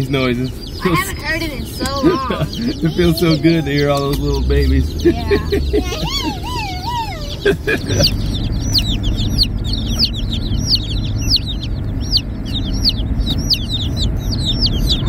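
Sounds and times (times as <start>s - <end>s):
chicks peeping: 0.0s - 15.0s
low rumble of car cabin: 0.0s - 15.0s.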